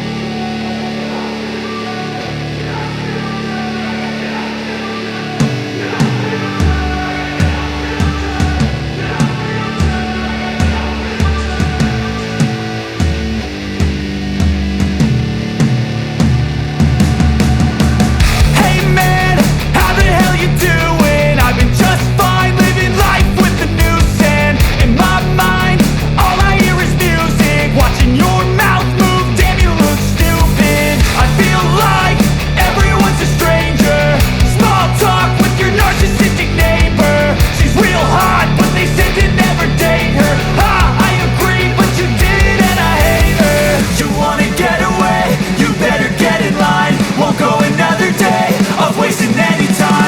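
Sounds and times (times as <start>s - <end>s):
background music with bass beat: 5.4s - 50.0s.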